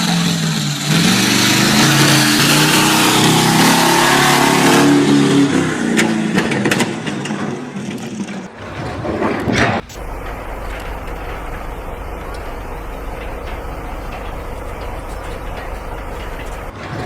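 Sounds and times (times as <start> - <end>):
motor engine running hard: 0.0 - 8.3, 9.8 - 17.0.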